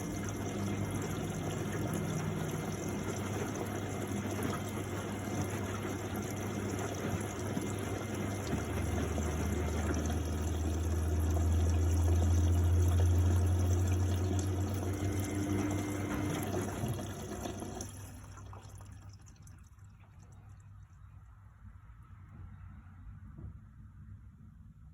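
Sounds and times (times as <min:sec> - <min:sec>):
water trickling: 0:00.0 - 0:21.4
washing machine drain pump humming: 0:00.0 - 0:21.6.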